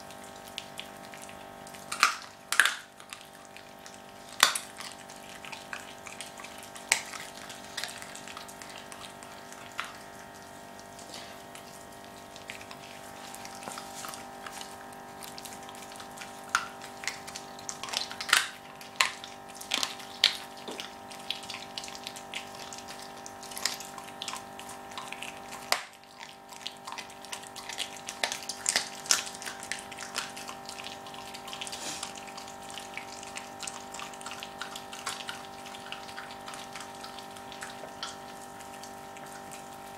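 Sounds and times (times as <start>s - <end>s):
dog chewing with wet crunching: 0.0s - 39.9s.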